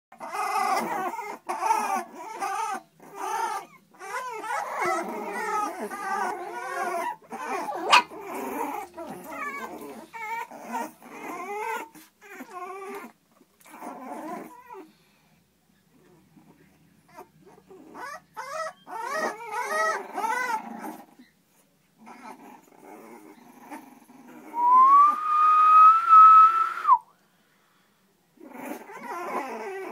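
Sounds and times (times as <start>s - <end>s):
puppies whining and whimpering: 0.1s - 15.0s, 15.9s - 26.5s, 28.4s - 29.9s
puppy long whine: 0.1s - 15.0s, 16.0s - 21.4s, 22.0s - 27.1s, 28.4s - 29.9s.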